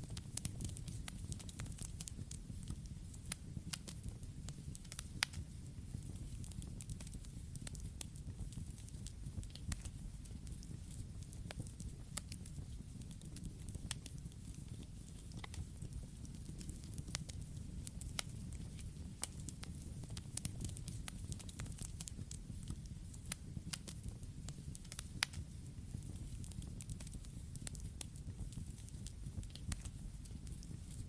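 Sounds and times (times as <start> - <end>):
burning wood crackling and popping: 0.0 - 31.0
campfire low rumble: 0.0 - 31.0.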